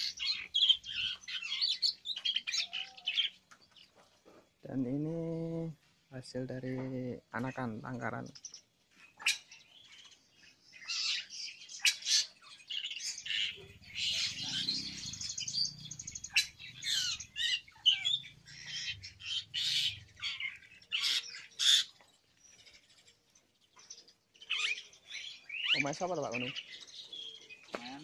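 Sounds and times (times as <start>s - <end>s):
starlings squawking and chirping: 0.0s - 28.0s.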